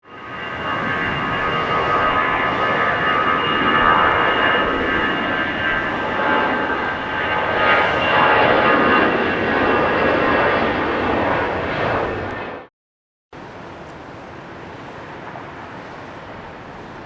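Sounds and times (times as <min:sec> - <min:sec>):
jet engine roar with high whine: 0:00.0 - 0:12.7, 0:13.4 - 0:17.0.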